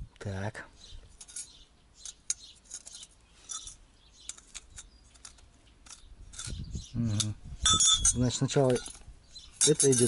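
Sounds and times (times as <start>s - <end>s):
metal rings clicking on concrete: 1.2s - 10.0s.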